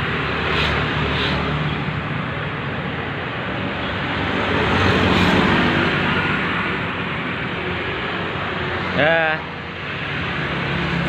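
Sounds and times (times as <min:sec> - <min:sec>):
rushing road noise: 0:00.0 - 0:11.0.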